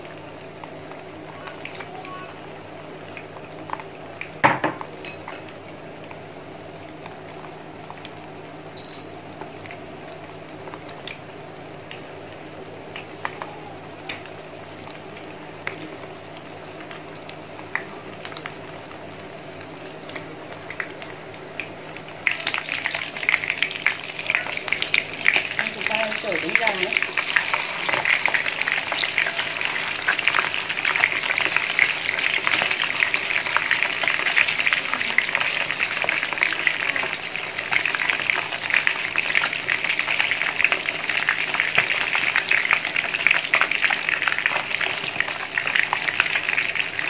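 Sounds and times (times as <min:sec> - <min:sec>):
chicken frying in hot oil: 0:00.0 - 0:47.0
induction cooktop hum: 0:00.0 - 0:47.0.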